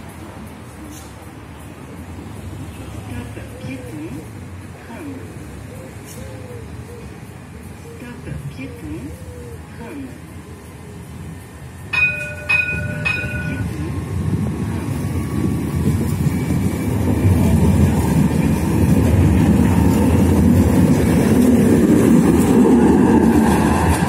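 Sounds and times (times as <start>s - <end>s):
tram warning bell: 0.0s - 5.7s, 7.1s - 24.0s
tram rumbling past on track: 0.0s - 24.0s.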